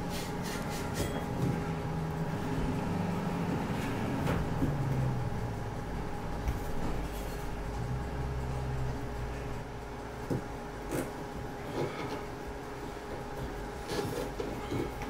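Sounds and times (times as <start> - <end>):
low rumble with faint hum: 0.0 - 15.0.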